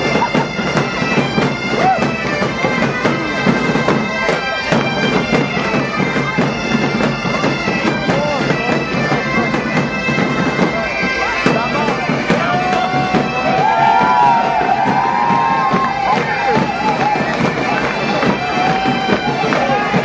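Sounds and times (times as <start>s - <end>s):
bagpipe band playing: 0.0s - 20.0s
bass and snare drums beating: 0.0s - 20.0s.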